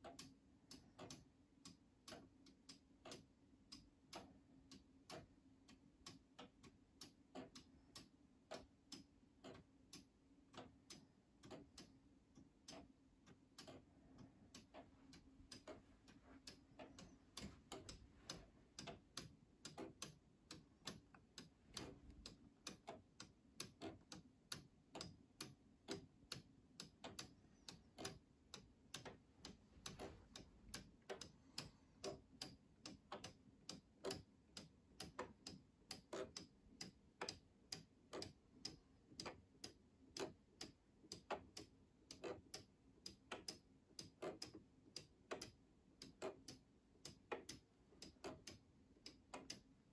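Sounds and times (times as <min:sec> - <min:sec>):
wall clocks ticking: 0:00.0 - 0:49.9.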